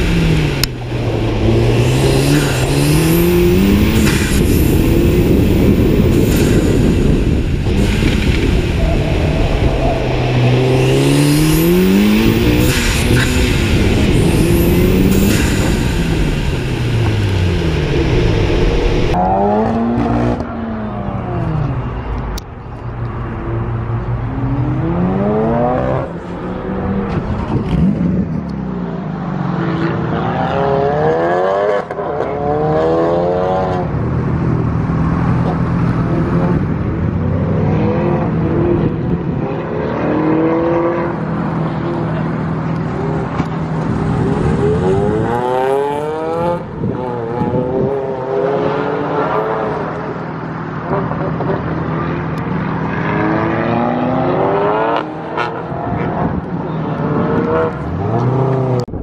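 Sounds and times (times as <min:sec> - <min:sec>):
car engines revving: 0:00.0 - 0:59.0
wind and road noise rush: 0:00.0 - 0:59.0.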